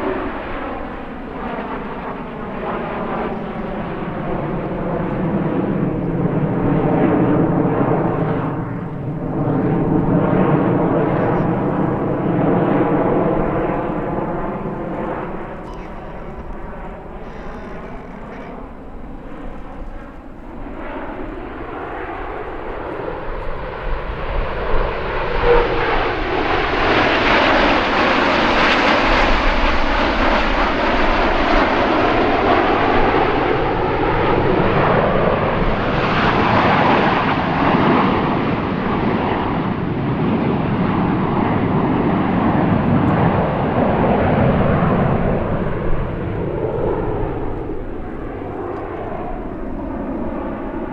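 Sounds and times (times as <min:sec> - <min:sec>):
jet engines flying past: 0:00.0 - 0:50.9.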